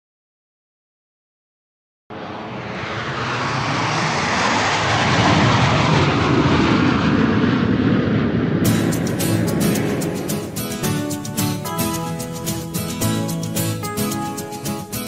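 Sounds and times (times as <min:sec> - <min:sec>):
jet engines at takeoff: 0:02.1 - 0:14.6.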